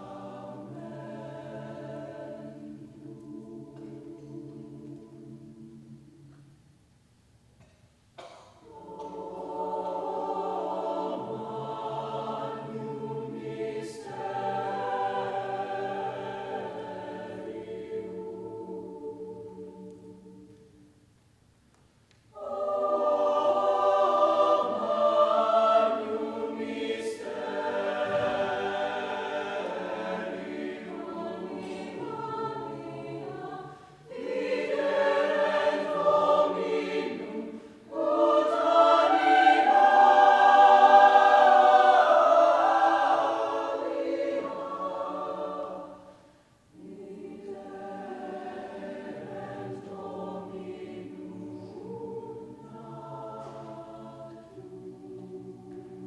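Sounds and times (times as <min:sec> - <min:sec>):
mixed choir singing: 0:00.0 - 0:06.5, 0:08.2 - 0:20.9, 0:22.3 - 0:56.0.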